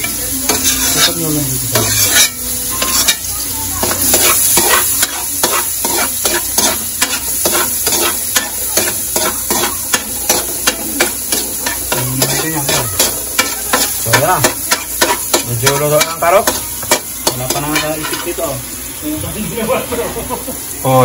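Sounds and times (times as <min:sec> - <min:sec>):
metal spatula scraping wok: 0:00.0 - 0:18.6
carrots sizzling in oil: 0:00.0 - 0:21.0.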